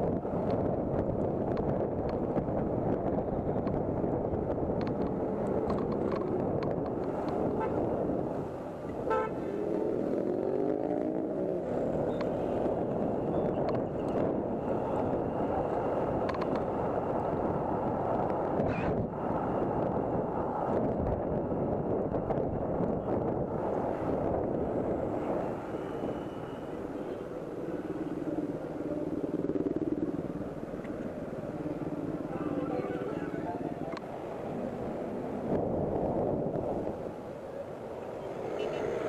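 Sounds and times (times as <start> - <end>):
road noise: 0.0 - 39.0
wind rushing over microphone: 0.0 - 39.0.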